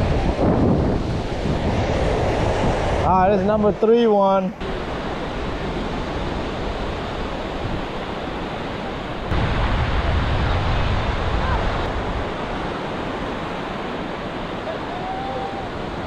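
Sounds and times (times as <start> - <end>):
wind on microphone: 0.0 - 3.8, 4.6 - 16.0
ocean surf washing on beach: 0.0 - 16.0.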